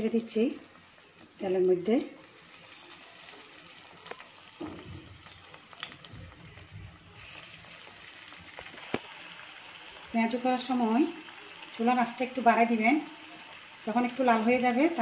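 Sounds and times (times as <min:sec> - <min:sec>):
hot oil sizzling: 0:00.0 - 0:15.0
oil popping and crackling: 0:00.0 - 0:15.0.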